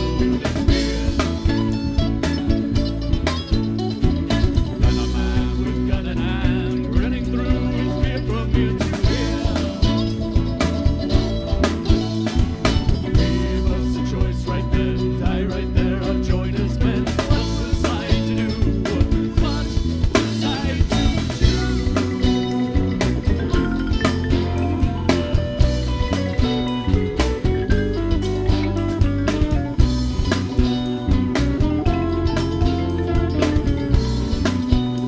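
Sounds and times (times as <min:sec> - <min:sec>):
live band playing: 0:00.0 - 0:35.0
steady drum beat: 0:00.0 - 0:35.0.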